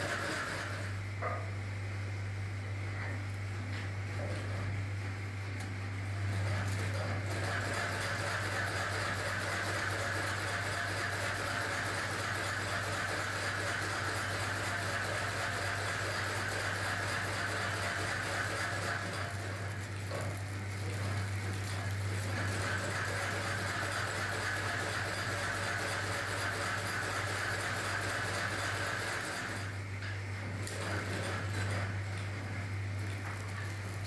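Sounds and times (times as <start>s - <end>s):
workshop machinery humming: 0.0s - 34.0s.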